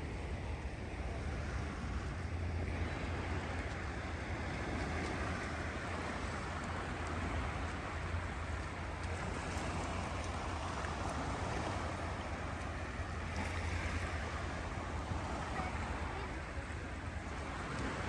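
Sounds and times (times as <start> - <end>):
low surf rumble: 0.0 - 18.0
waves washing: 0.0 - 18.0.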